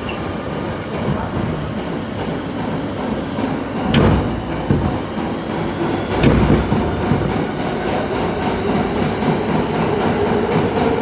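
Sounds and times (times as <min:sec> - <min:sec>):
subway car wheels rumbling on rails: 0:00.0 - 0:11.0.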